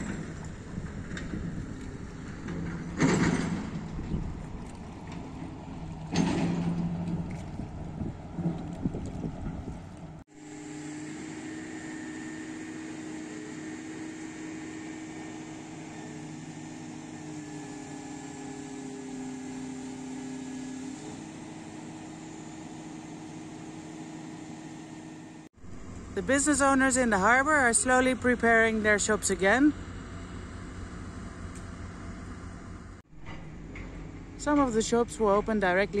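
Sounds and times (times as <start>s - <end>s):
excavator diesel engine running: 0.0s - 36.0s
wind: 0.0s - 36.0s.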